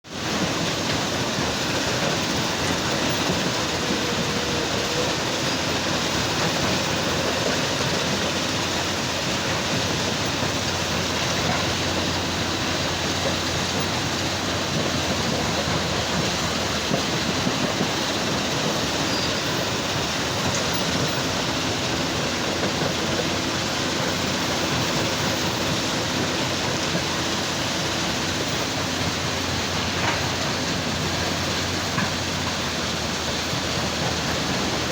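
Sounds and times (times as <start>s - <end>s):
heavy machinery running: 0.1s - 34.9s.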